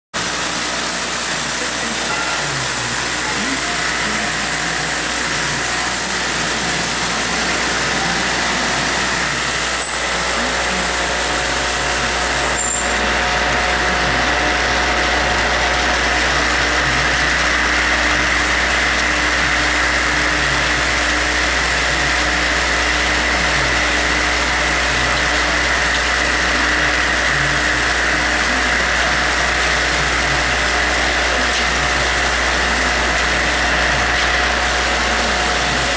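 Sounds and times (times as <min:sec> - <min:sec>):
vibratory feeder humming: 0:00.2 - 0:35.9.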